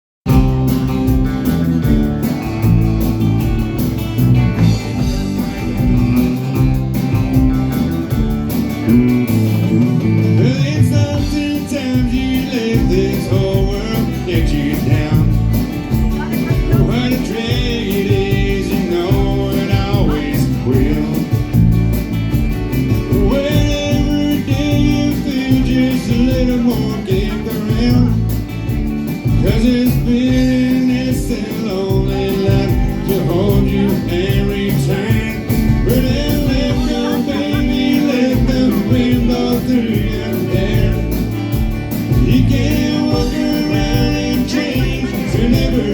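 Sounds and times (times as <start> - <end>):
live country band playing: 0.2 - 45.9
lead guitar melody line: 0.3 - 45.9.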